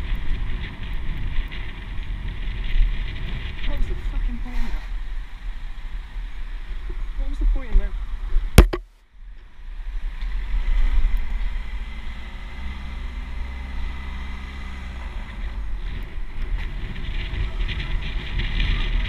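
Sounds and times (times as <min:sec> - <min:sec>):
car engine humming: 0:00.0 - 0:19.0
road rumble: 0:00.0 - 0:19.0
wind noise on microphone: 0:00.0 - 0:19.0.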